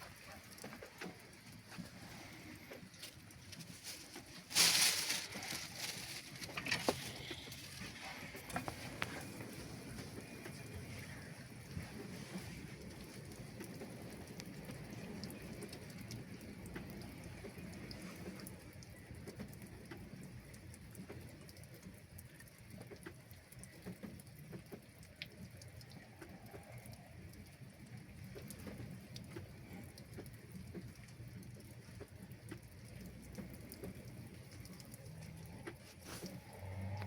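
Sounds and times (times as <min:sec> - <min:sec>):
faint rain drops ticking: 0:00.0 - 0:37.0.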